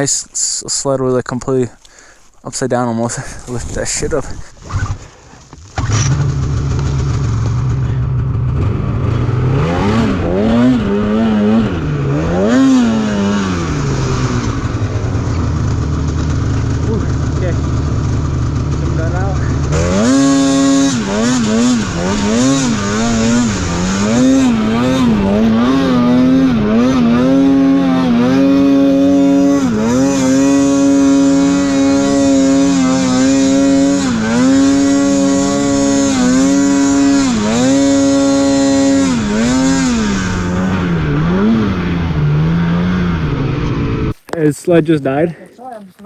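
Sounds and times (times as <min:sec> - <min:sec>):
snowmobile engine revving: 0:00.0 - 0:05.0, 0:05.7 - 0:44.2.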